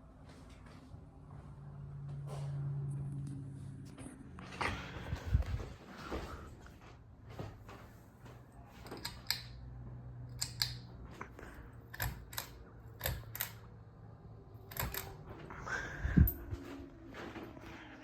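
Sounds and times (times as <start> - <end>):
ceiling fan humming: 0.0 - 18.0.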